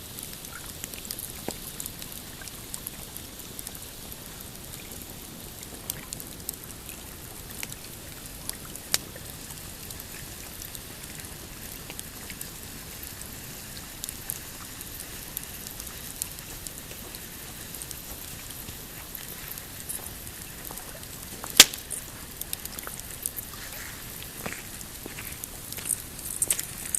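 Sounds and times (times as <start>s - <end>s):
campfire crackling and popping: 0.1s - 26.9s.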